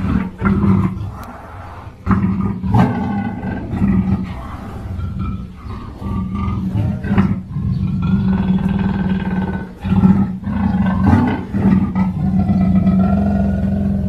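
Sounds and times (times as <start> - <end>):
big cat growling: 0.0 - 14.0.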